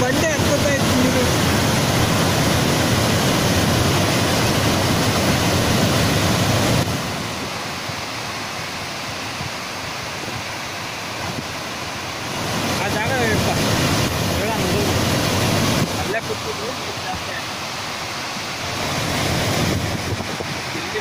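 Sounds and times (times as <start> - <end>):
floodwater rushing through spillway: 0.0 - 21.0.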